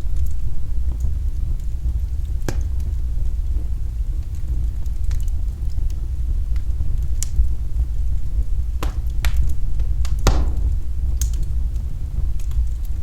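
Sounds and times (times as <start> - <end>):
fire crackles and pops: 0.0 - 13.0
fire rumbling: 0.0 - 13.0.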